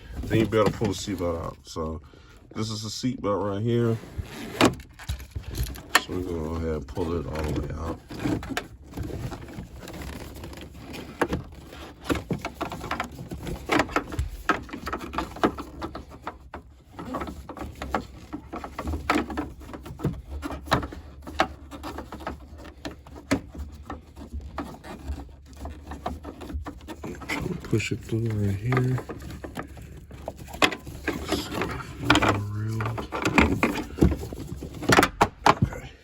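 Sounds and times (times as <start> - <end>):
seatbelt and plastic trim rustling: 0.0 - 2.9, 3.7 - 35.7.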